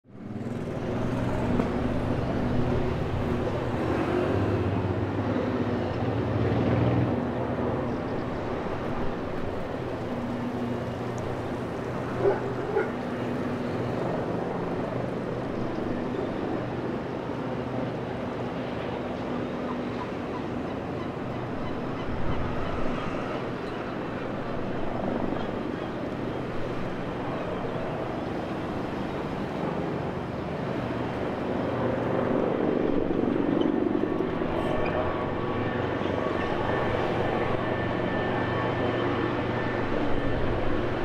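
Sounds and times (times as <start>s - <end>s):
distant helicopter drone: 0.1s - 41.0s.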